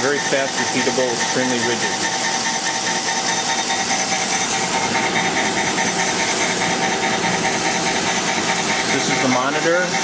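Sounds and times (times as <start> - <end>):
grinder table pulsing strokes: 0.0 - 10.0
grinding wheel whine: 0.0 - 10.0.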